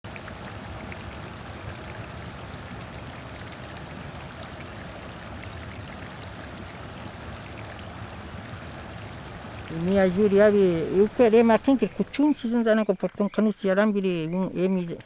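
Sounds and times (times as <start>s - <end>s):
faint water splashes: 0.0s - 12.6s
stream water flowing: 0.0s - 12.6s.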